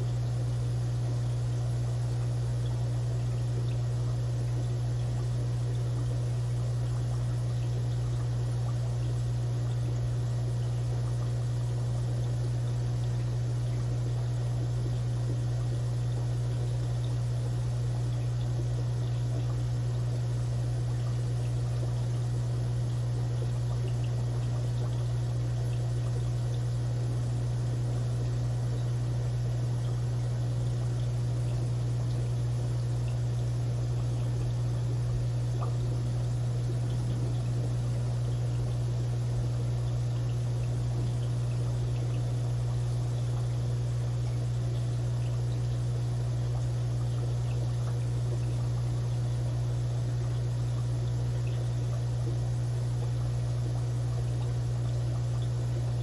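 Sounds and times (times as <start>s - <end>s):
aquarium filter humming: 0.0s - 56.0s
water trickling: 1.1s - 56.0s.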